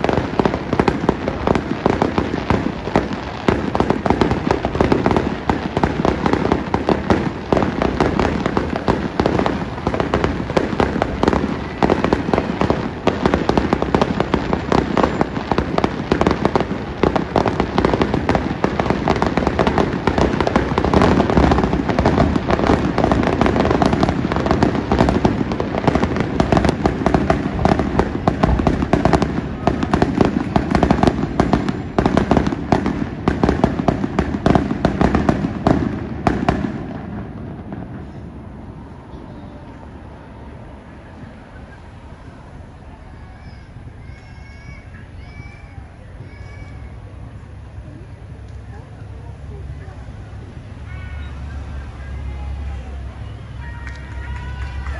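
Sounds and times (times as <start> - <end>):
fireworks cracks and bangs: 0.0 - 54.9.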